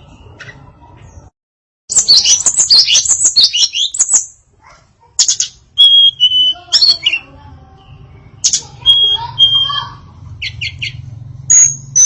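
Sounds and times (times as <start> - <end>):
songbird chirping and twittering: 0.0 - 1.3, 1.9 - 12.0.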